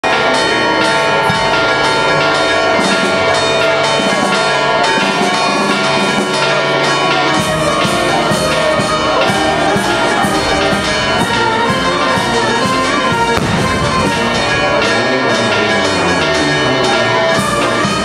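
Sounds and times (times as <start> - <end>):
church bells pealing: 0.0 - 18.0.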